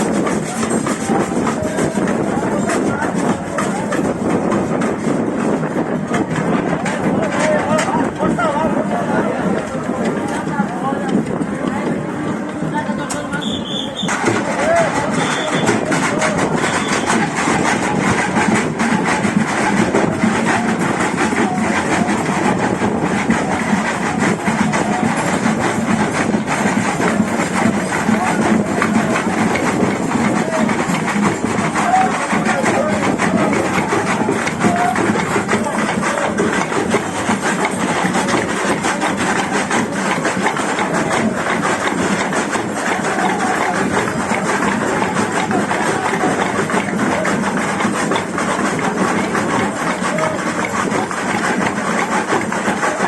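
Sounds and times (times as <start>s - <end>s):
crowd noise: 0.0s - 53.0s
rapid clatter of drumbeats: 0.0s - 53.0s
rapid percussion hits: 0.0s - 53.0s.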